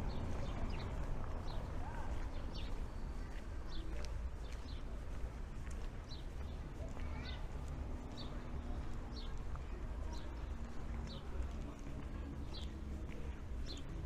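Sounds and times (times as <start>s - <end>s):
small birds chirping: 0.0s - 14.0s
street ambience rumble: 0.0s - 14.0s.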